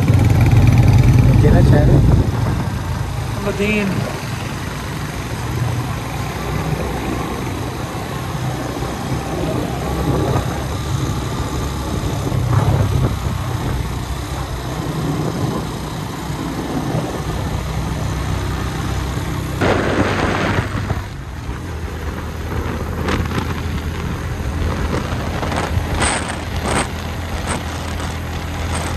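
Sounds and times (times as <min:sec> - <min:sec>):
motorcycle engine running: 0:00.0 - 0:28.9
wind noise: 0:00.0 - 0:28.9.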